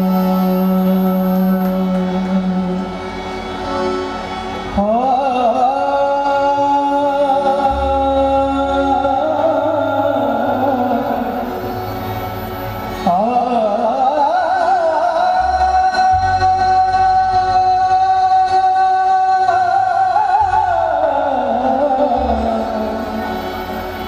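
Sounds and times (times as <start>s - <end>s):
man singing: 0.0s - 3.2s, 4.7s - 12.1s, 13.0s - 24.0s
harmonium drone: 0.0s - 24.0s.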